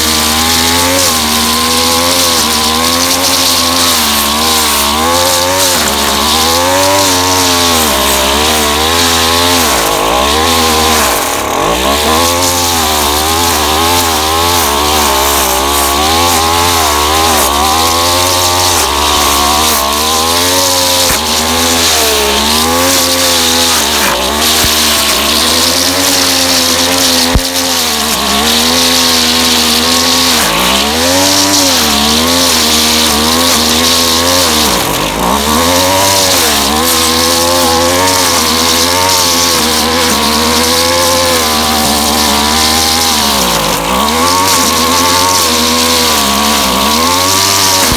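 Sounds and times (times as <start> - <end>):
sharp crack: 0.0 - 47.9
string trimmer running hard: 0.0 - 47.9.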